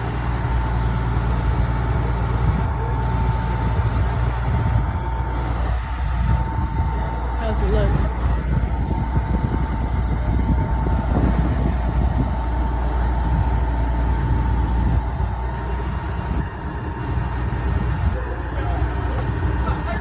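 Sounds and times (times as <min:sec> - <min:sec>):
heavy engine rumbling: 0:00.0 - 0:20.0
thin steady whine: 0:00.0 - 0:20.0.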